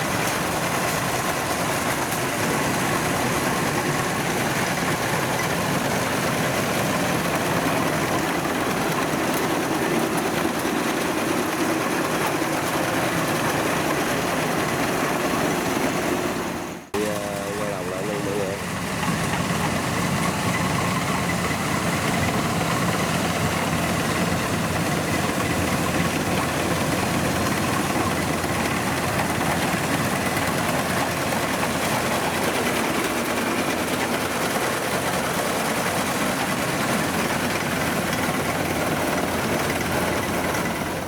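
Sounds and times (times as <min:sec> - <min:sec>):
combine harvester diesel engine: 0:00.0 - 0:41.0.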